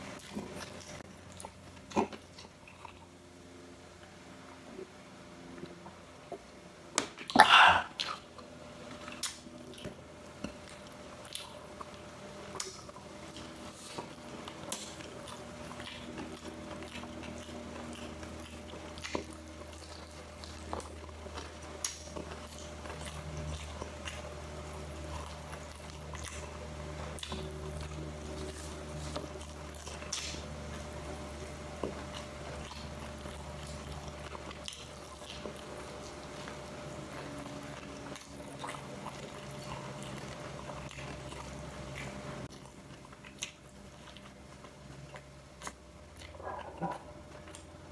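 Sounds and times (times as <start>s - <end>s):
person chewing and biting: 8.9s - 47.9s.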